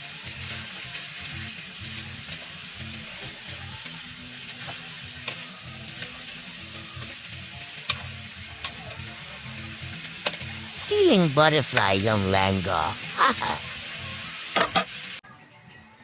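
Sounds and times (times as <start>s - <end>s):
chicken feet sizzling in a pan: 0.0s - 15.3s.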